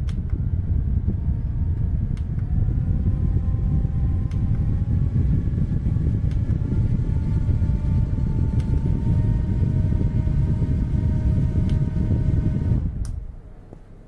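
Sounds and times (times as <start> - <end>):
handheld fan motor whine: 0.0 - 13.2
air blowing across microphone: 0.0 - 13.3.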